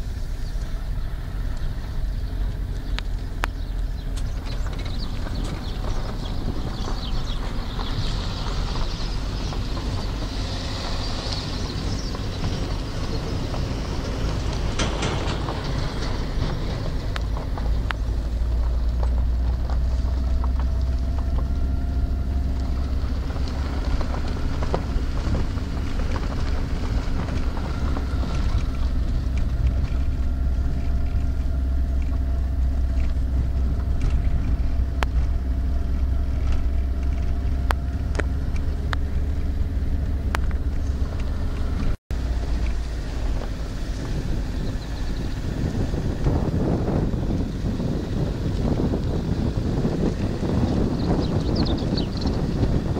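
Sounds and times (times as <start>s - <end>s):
car engine running: 0.0s - 52.9s
road rumble: 0.0s - 52.9s.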